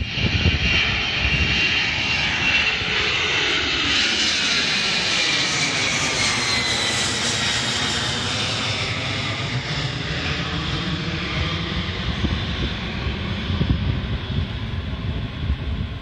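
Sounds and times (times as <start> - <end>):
jet airliner roaring overhead: 0.0 - 16.0.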